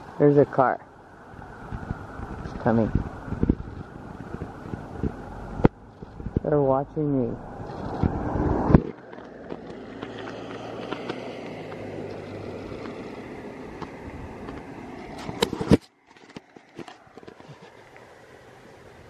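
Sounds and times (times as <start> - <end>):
car driving on wet road: 0.0 - 15.5.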